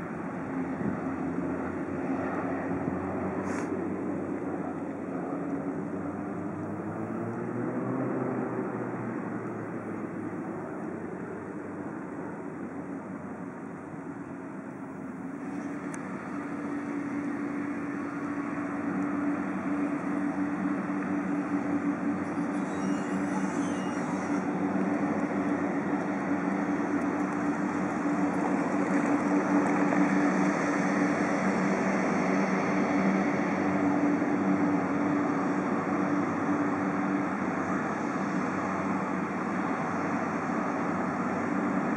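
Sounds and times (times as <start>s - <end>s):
low propeller tones: 0.0s - 41.9s
turboprop aircraft droning: 0.0s - 41.9s.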